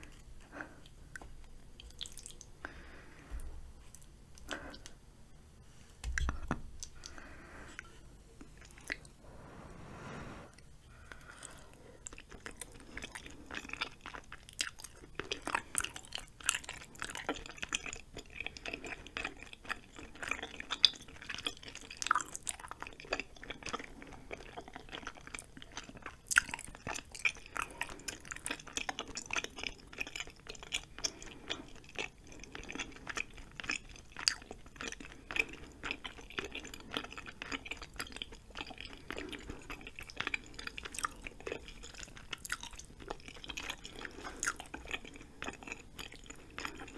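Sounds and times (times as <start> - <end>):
chewing soft food: 0.0 - 5.0, 6.0 - 9.2, 10.5 - 46.9.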